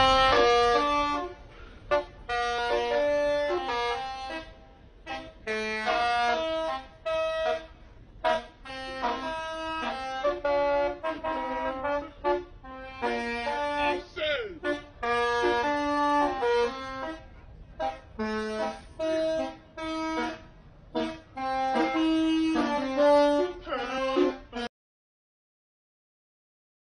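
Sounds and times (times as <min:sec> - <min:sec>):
air horns playing a tune: 0:00.0 - 0:24.7.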